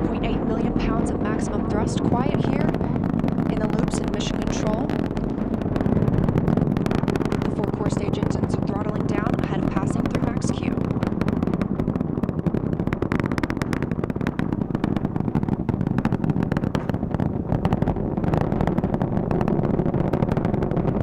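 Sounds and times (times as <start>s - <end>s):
rocket rumble with crackling: 0.0s - 21.0s.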